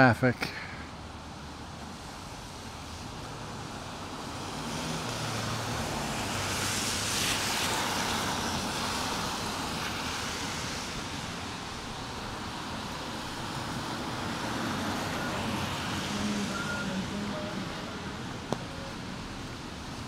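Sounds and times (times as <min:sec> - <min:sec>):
tyres hissing on wet road: 0:00.0 - 0:20.0
rain hiss: 0:00.6 - 0:20.0.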